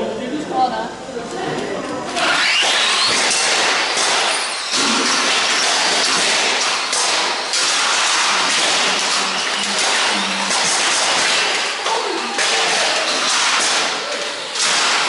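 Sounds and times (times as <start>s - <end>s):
remote control cars rushing: 2.1s - 15.0s.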